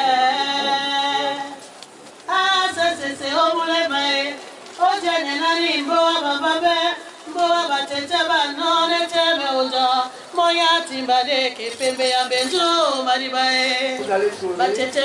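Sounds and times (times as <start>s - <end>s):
woman singing unaccompanied: 0.0s - 1.7s, 2.3s - 15.0s.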